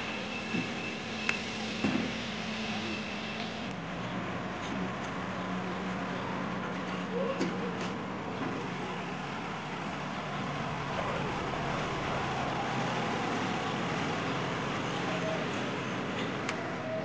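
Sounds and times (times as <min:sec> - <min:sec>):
vehicle humming: 0:00.0 - 0:17.0.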